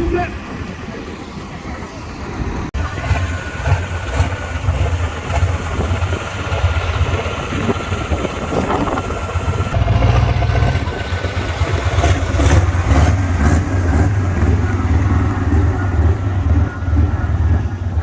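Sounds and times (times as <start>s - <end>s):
large vehicle engine rumbling: 0.0s - 18.0s.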